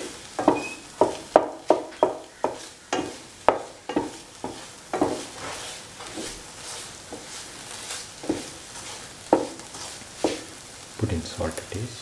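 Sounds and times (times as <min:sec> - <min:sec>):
spatula scraping a pan: 0:00.0 - 0:10.9
frying sizzle: 0:00.0 - 0:12.0.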